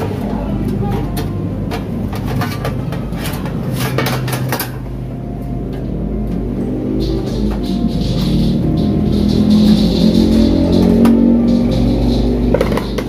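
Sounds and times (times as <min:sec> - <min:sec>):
metal cooking gear clattering: 0:00.0 - 0:05.0, 0:05.7 - 0:13.0
music: 0:00.0 - 0:13.0
steady low hum: 0:00.0 - 0:13.0.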